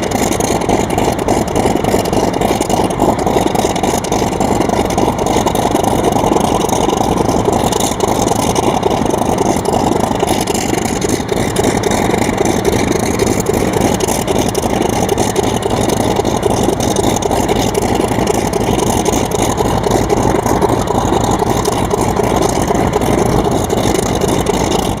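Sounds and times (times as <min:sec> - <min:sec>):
model aeroplane motor running: 0:00.0 - 0:25.0.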